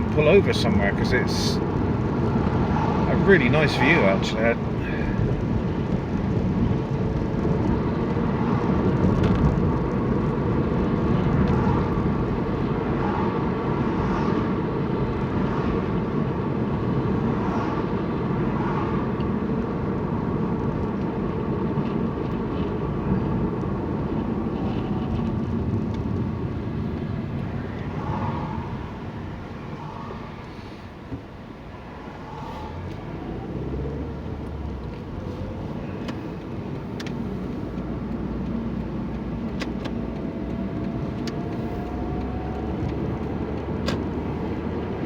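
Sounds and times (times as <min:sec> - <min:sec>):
car road and engine rumble: 0:00.0 - 0:45.0.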